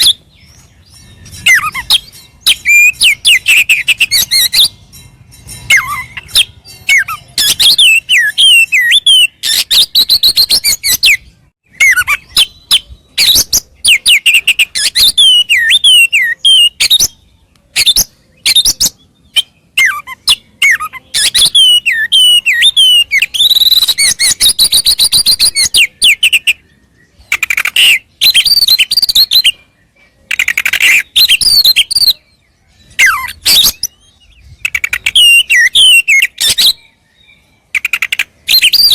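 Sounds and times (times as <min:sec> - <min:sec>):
songbird singing varied whistles: 0:00.0 - 0:38.9.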